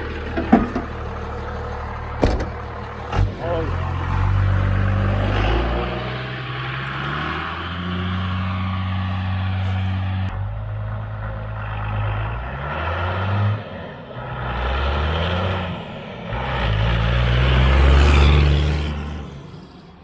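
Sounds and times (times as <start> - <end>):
diesel truck accelerating: 0.0 - 20.0.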